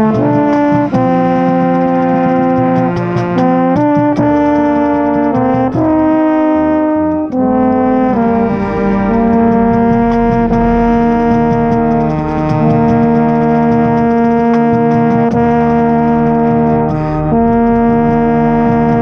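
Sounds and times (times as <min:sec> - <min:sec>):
marching band brass chords: 0:00.0 - 0:19.0.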